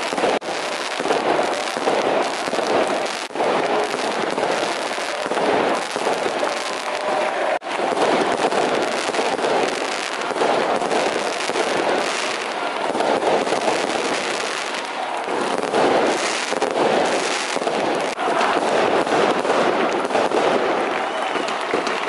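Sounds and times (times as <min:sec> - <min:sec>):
firecrackers crackling and banging: 0:00.0 - 0:22.0.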